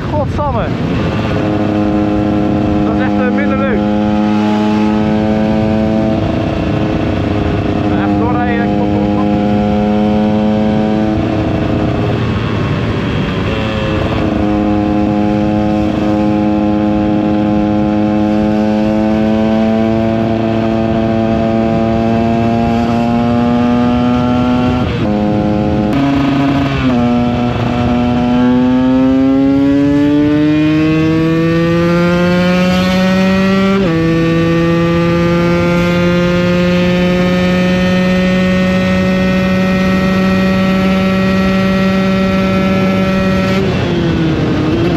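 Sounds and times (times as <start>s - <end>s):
two-stroke motorcycle engine: 0.0s - 44.9s
wind on microphone: 0.0s - 44.9s.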